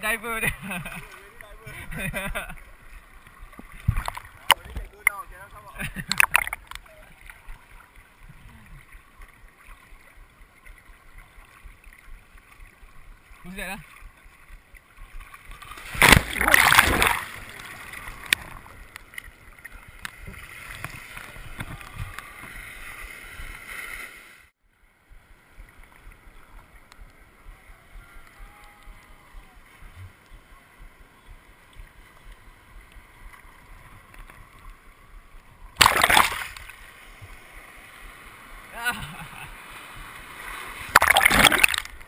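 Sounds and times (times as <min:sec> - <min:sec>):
sea water sloshing and lapping: 0:00.5 - 0:24.5, 0:31.4 - 0:42.0.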